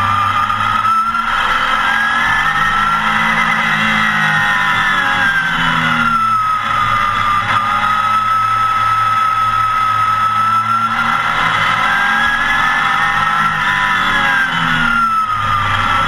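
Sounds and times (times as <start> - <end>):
race car engine accelerating: 0.0 - 16.0.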